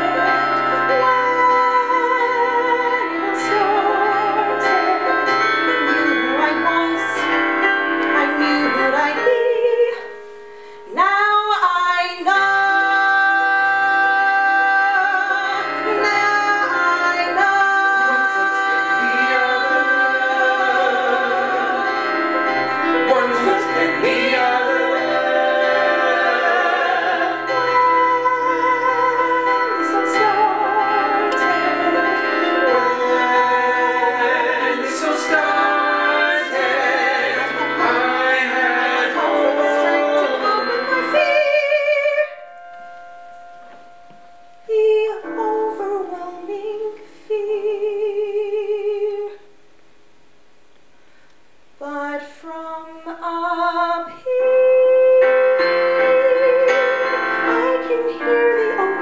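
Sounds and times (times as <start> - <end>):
voices singing in harmony: 0.0 - 10.0, 12.2 - 42.4, 52.0 - 59.0
piano accompaniment: 0.0 - 49.3, 52.8 - 59.0.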